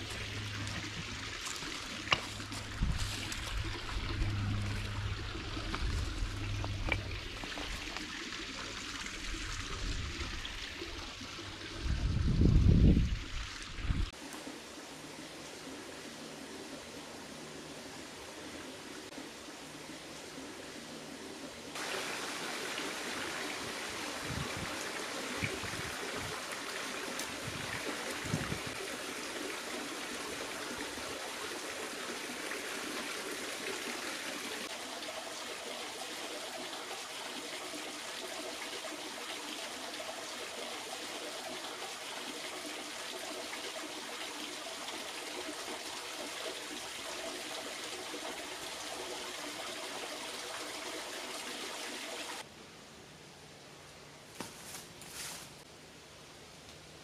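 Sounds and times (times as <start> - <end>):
creek water over rocks: 0.0 - 52.5.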